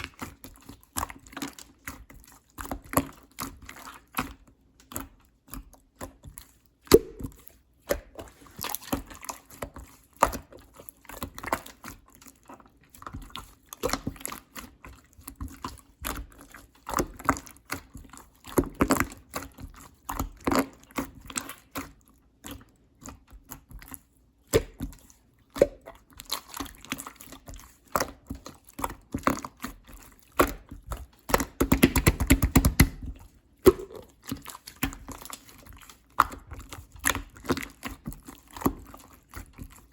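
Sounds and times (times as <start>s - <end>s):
rapid crackling of slime: 0.0s - 39.9s
slime squished by hand: 0.0s - 39.9s.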